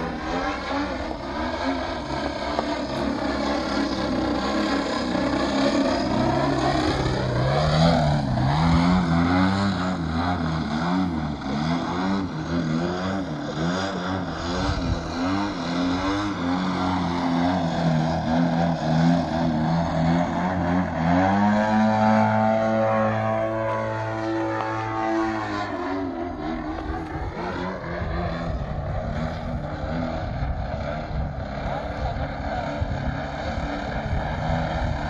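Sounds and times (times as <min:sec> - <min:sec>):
model airplane motor and propeller: 0:00.0 - 0:35.0.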